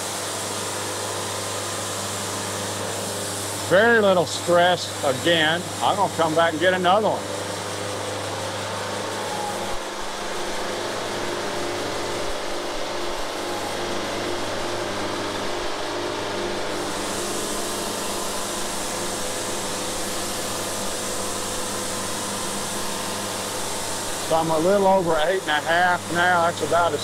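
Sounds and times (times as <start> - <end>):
band sawmill running: 0.0 - 27.0.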